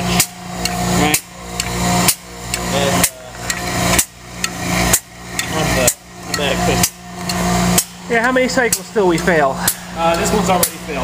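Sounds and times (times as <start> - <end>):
steady motor hum: 0.0 - 11.0.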